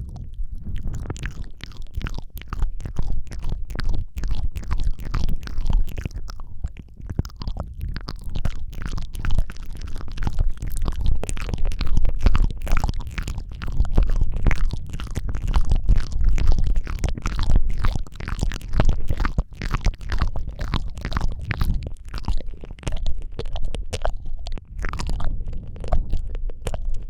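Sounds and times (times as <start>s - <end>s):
lip smacks and tongue clicks: 0.0s - 27.0s
low breath rumble on microphone: 0.0s - 27.0s.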